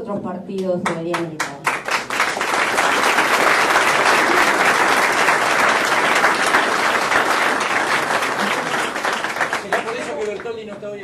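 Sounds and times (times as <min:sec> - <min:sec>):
group applause: 0:01.1 - 0:11.0.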